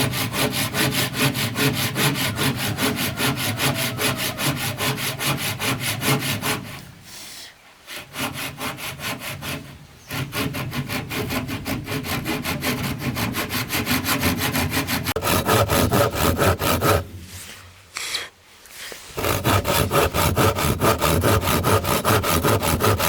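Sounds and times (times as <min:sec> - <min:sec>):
hand saw cutting wood: 0:00.0 - 0:07.0, 0:07.8 - 0:17.6, 0:19.1 - 0:23.0.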